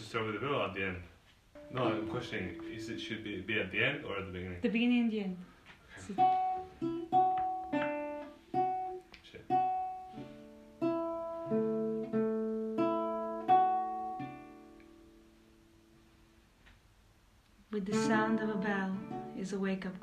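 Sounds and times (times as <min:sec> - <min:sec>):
acoustic guitar chords: 0:00.0 - 0:04.4, 0:06.0 - 0:16.7, 0:17.8 - 0:20.0.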